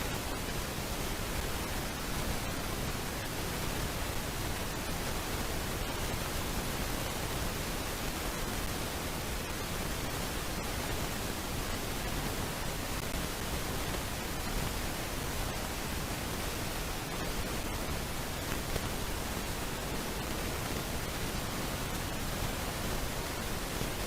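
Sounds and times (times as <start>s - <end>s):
microphone hiss: 0.0s - 24.0s.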